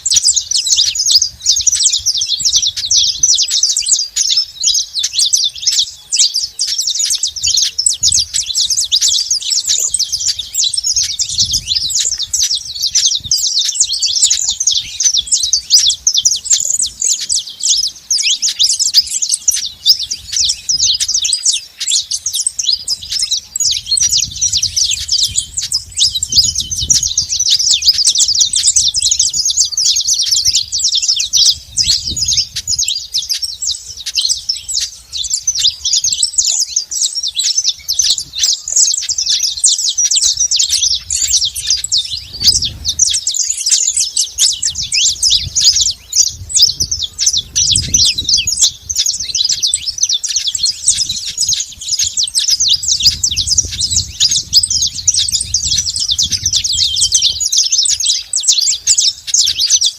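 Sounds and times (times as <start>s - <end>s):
finch singing high chirps and trills: 0.0s - 59.9s.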